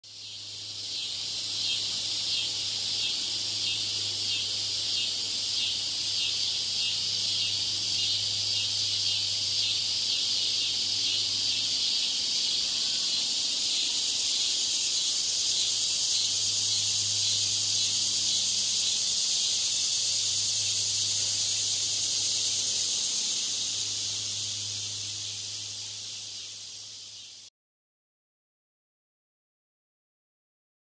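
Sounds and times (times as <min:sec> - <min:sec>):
cicada buzzing drone: 0:00.1 - 0:27.5.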